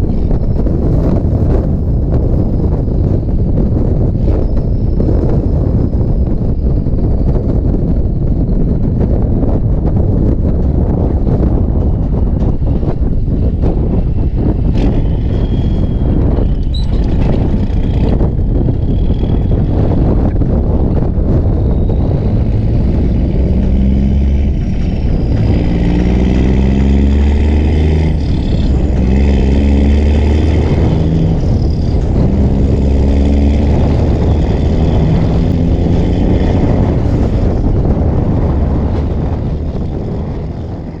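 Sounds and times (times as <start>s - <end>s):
diesel engine of backhoe loader: 0.0s - 41.0s.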